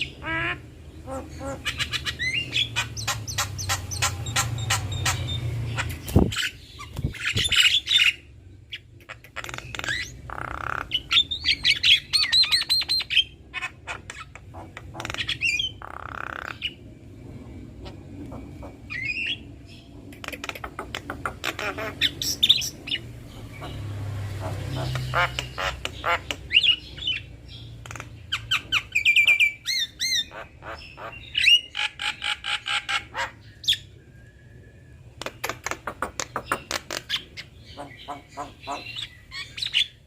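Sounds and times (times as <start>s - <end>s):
birds clicking and chattering: 0.0s - 16.9s, 17.7s - 33.9s, 35.2s - 40.0s.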